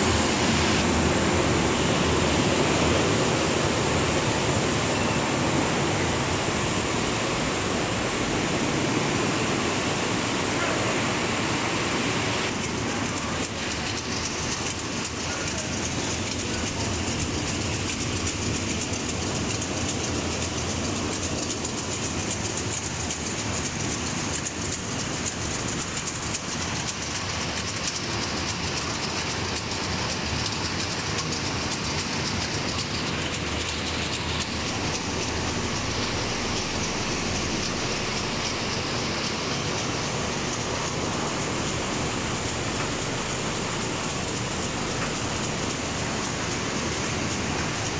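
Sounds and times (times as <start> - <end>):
conveyor belts clattering and whirring: 0.0 - 47.9.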